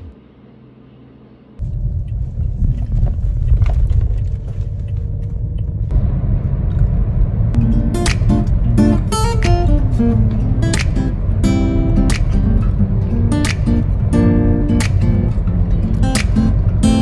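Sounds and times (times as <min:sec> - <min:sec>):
car cabin rumble: 0:01.6 - 0:17.0.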